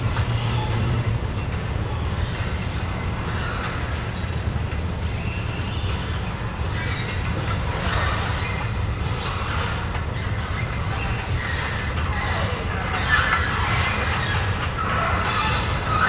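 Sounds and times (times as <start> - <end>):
faint squeaks and rattles: 0.0 - 16.0
moving walkway drive hum: 0.0 - 16.0.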